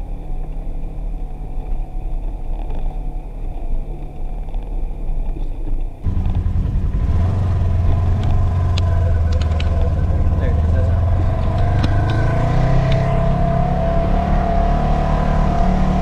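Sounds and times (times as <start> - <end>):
utility vehicle engine rumbling: 0.0 - 16.0.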